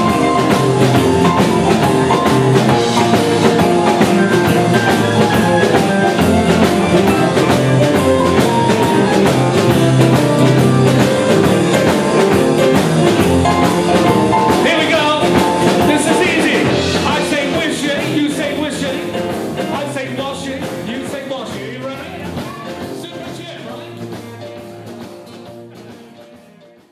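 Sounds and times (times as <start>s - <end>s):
drum kit beat: 0.0s - 26.9s
rock and blues band playing: 0.0s - 26.9s.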